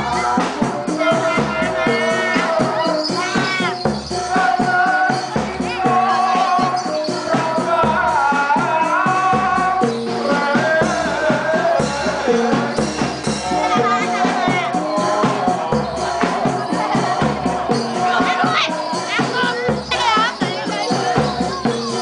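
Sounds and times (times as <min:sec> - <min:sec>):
person singing: 0:00.0 - 0:22.0.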